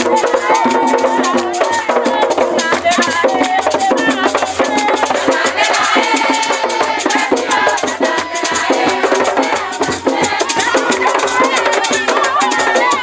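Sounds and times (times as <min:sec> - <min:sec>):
voices singing praise music: 0:00.0 - 0:13.0
shaken rattles: 0:02.6 - 0:13.0.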